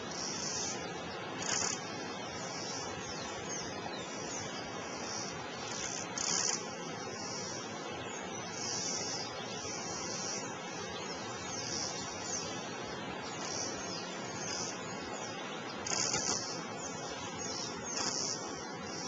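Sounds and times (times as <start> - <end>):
faint chirps: 0.0 - 19.0
insect-like high hissing buzzes: 0.0 - 19.0.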